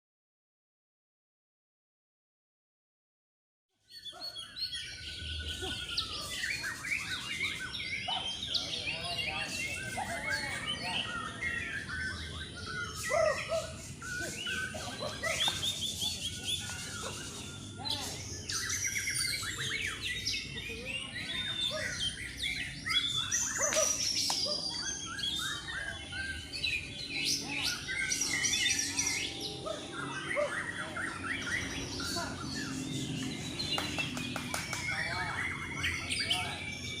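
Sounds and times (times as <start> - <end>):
birds singing whistles and trills: 3.8 - 37.0.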